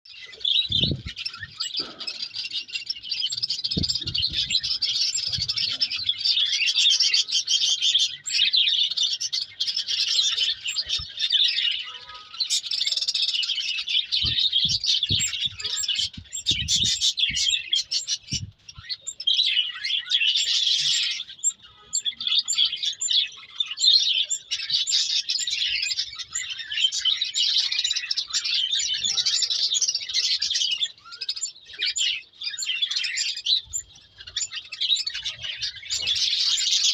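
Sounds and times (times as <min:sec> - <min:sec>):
flock of birds chirping: 0:00.0 - 0:36.9.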